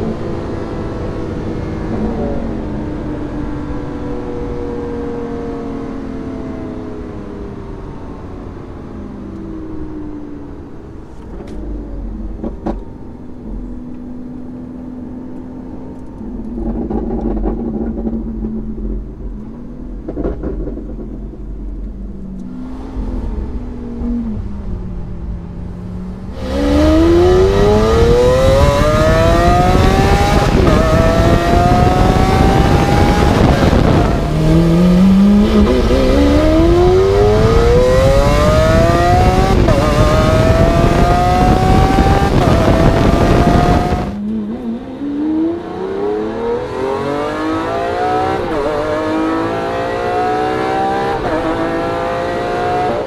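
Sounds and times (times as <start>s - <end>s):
sports car engine accelerating: 0.0s - 53.0s.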